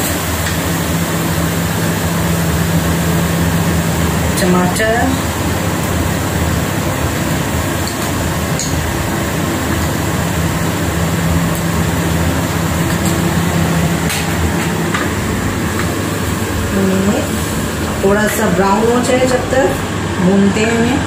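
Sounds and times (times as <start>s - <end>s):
low even hum: 0.0s - 21.0s.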